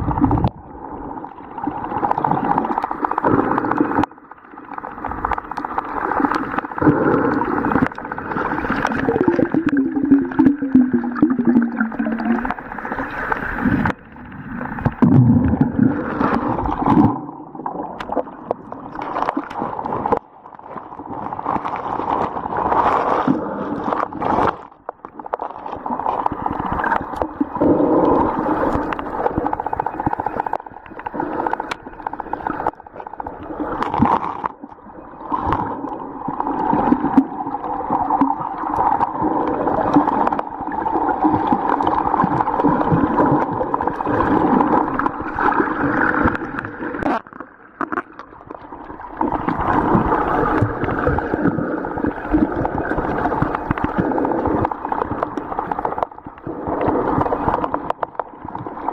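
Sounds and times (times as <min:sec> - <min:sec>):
water gurgling underwater: 0:00.0 - 0:58.9.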